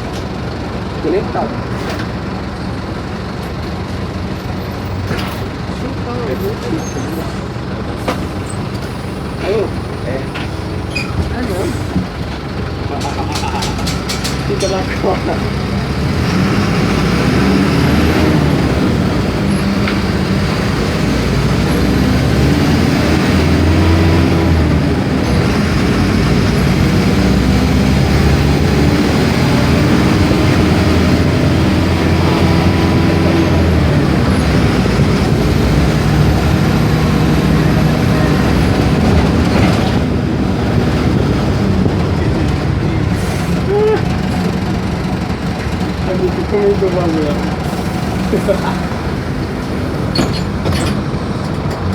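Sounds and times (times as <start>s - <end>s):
diesel bus engine pulling: 0.0s - 51.9s.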